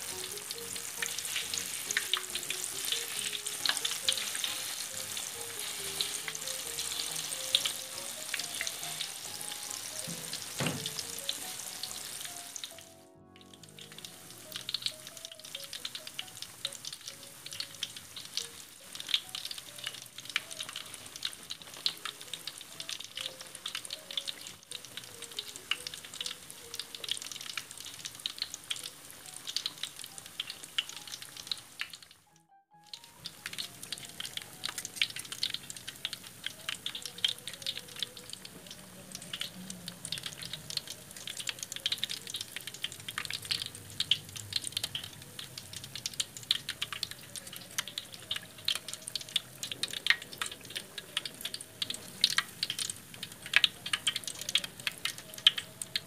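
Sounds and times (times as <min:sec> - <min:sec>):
tofu deep-frying in oil: 0:00.0 - 0:56.0.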